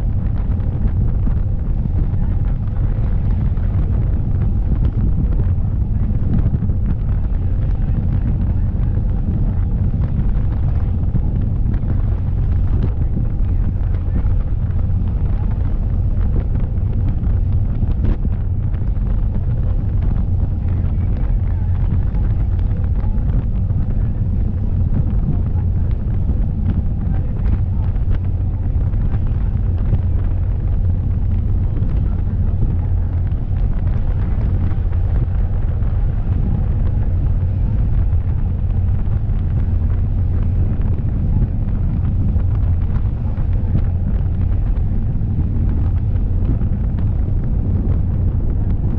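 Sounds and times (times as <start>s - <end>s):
boat engine rumble: 0.0s - 48.9s
rushing wake: 0.0s - 48.9s
wind buffeting microphone: 0.0s - 48.9s.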